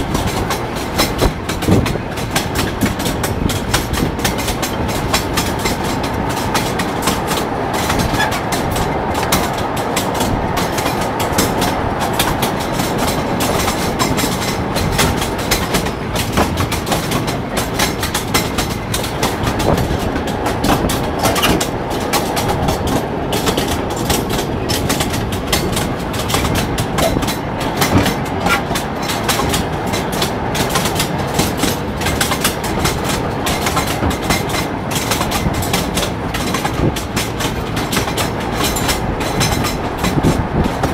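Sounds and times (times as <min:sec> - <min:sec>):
wheels clacking over rails: 0:00.0 - 0:40.9.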